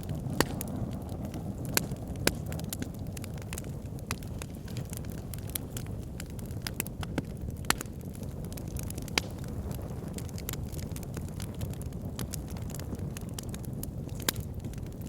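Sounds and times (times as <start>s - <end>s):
fire crackling: 0.0s - 15.0s
loud fire pops: 0.0s - 15.0s.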